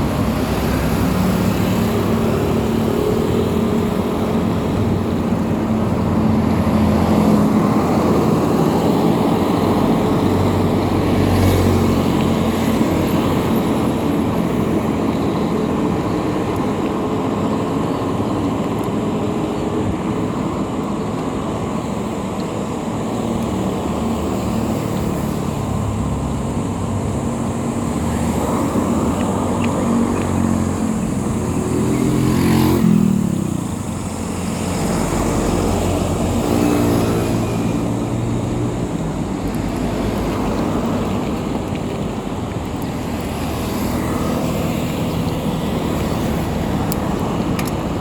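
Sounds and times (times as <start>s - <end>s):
vehicle and road noise: 0.0s - 48.0s.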